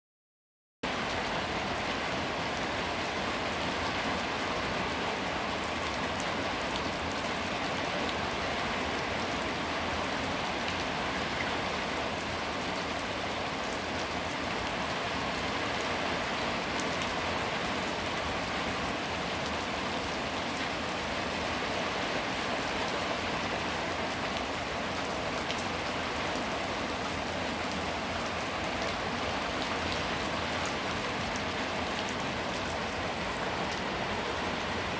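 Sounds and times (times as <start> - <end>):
heavy rain falling: 0.8 - 34.9
raindrops ticking on a surface: 0.9 - 34.9.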